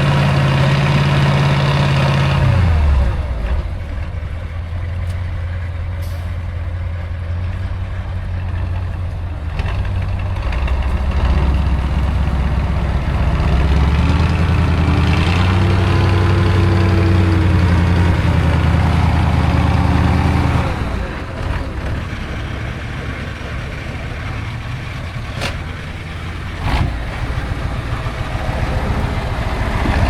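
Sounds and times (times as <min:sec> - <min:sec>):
heavy truck engine running: 0:00.0 - 0:30.0.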